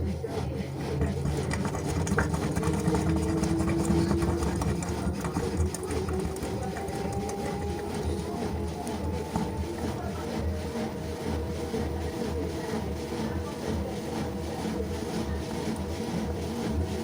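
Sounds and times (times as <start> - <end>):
washing machine motor whine: 0.0 - 17.0.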